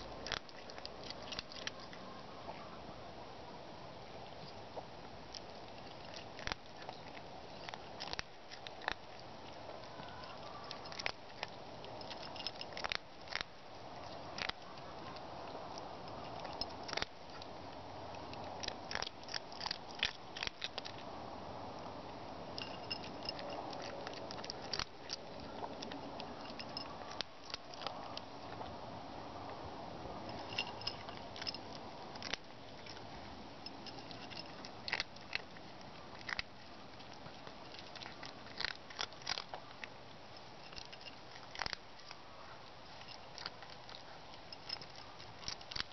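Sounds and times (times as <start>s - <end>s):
cat crunching food: 0.0s - 2.7s, 4.0s - 45.9s.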